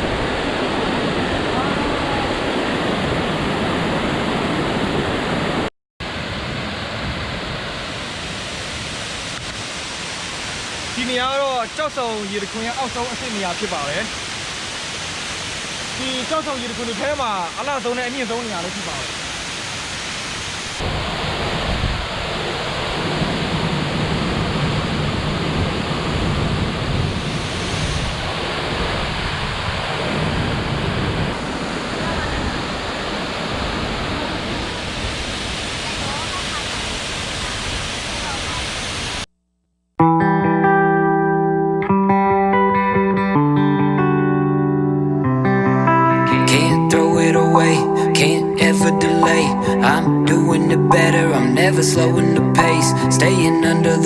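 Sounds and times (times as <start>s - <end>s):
waterfall rushing: 0.0s - 5.5s, 7.4s - 39.2s, 46.1s - 54.0s.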